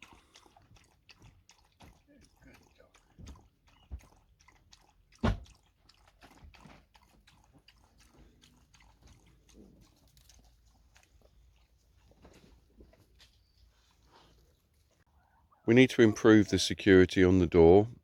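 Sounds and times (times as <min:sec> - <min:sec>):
dogs crunching and chewing food: 0:00.0 - 0:15.1.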